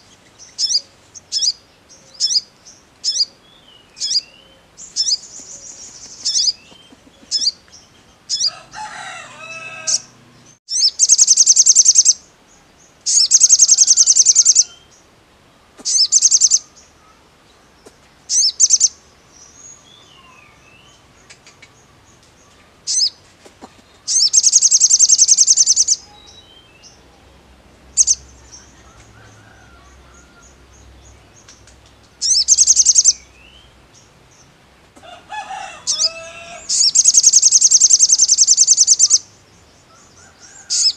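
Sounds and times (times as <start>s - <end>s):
fainter lower bird chirps: 0.0s - 15.0s, 15.8s - 17.2s, 18.3s - 23.2s, 23.9s - 27.2s, 27.9s - 33.7s, 35.8s - 39.4s
bird singing rapid high trills: 0.0s - 15.1s, 15.9s - 17.2s, 18.3s - 21.2s, 22.8s - 23.2s, 24.0s - 31.6s, 32.2s - 34.1s, 35.7s - 40.9s.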